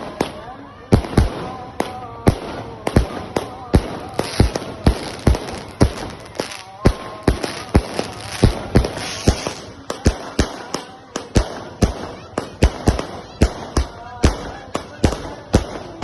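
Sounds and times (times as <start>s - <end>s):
firecrackers banging: 0.0s - 16.0s
people's voices: 0.0s - 16.0s.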